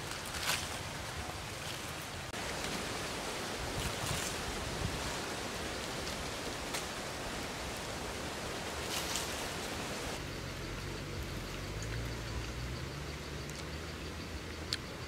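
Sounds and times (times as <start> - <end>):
background hiss: 0.0 - 14.7.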